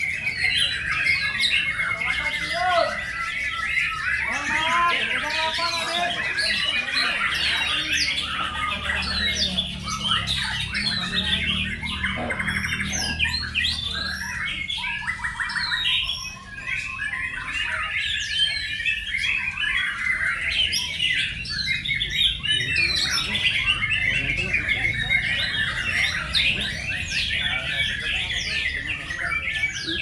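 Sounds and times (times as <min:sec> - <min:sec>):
birds singing in chorus: 0:00.0 - 0:30.0.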